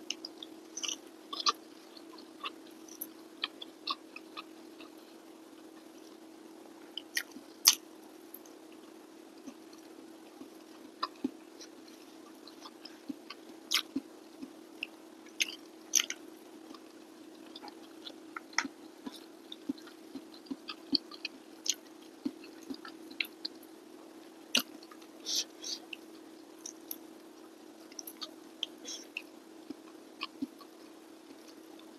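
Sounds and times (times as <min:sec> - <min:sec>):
person chewing and lip smacking: 0:00.0 - 0:06.2, 0:06.9 - 0:23.6, 0:24.5 - 0:31.9
steady low hum: 0:00.0 - 0:31.9.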